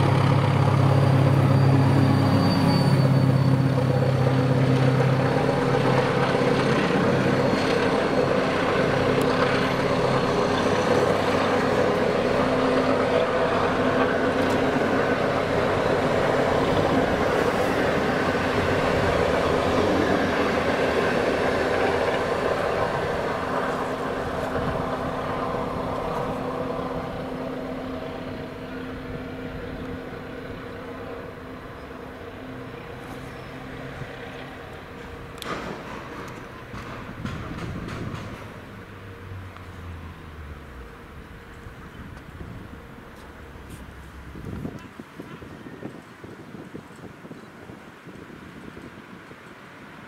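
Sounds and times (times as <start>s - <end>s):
diesel locomotive engine droning: 0.0s - 50.0s.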